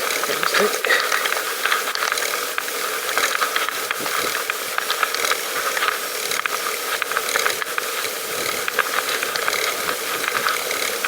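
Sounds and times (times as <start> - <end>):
bicycle freewheel ticking: 0.0 - 11.0.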